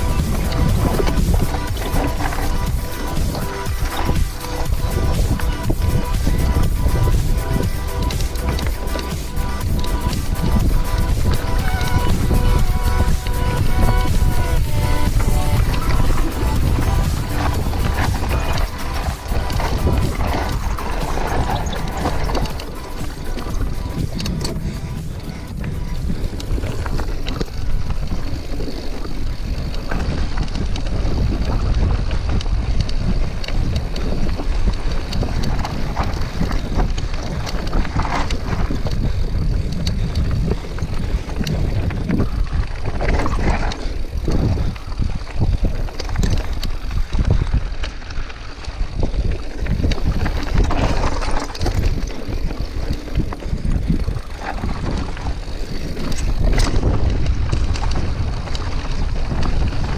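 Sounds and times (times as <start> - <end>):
bike clattering over rough ground: 0.0 - 59.9
wind buffeting microphone: 0.0 - 59.9.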